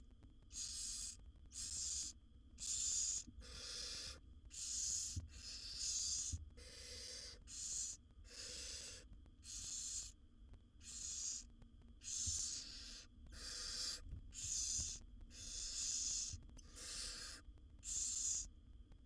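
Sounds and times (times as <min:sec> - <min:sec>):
owl chicks rasping begging calls: 0:00.5 - 0:10.2, 0:10.8 - 0:18.5.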